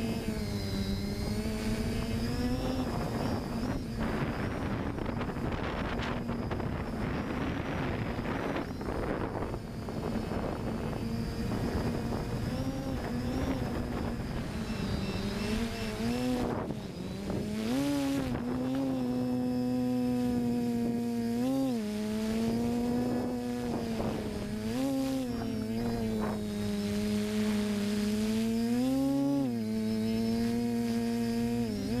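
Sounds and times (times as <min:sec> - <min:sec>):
wind buffeting microphone: 0:00.0 - 0:21.2, 0:22.0 - 0:28.7
drone propellers humming: 0:00.0 - 0:32.0.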